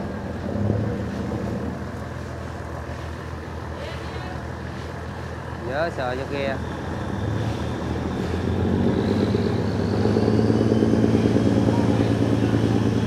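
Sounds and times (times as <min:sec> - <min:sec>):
diesel boat engine droning: 0:00.0 - 0:13.0.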